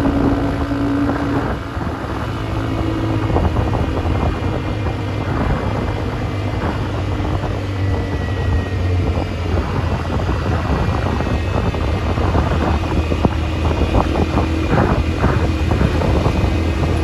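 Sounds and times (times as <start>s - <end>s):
atv engine running: 0.0s - 17.0s
wind buffeting microphone: 0.0s - 17.0s.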